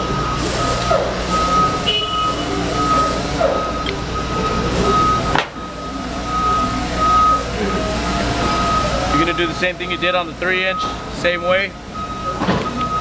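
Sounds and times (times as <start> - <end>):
back-up alarm beeping: 0.0 - 13.0.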